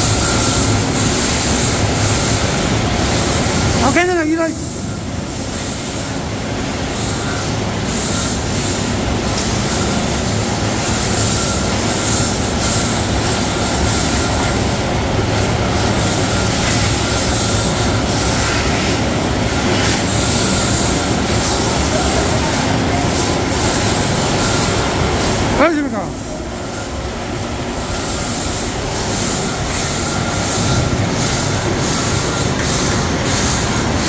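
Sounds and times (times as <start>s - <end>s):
conveyor belts and motors humming: 0.0s - 34.0s.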